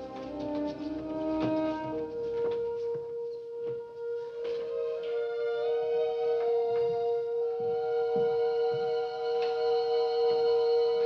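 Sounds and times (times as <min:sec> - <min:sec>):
quiet orchestral tones: 0:00.0 - 0:11.0.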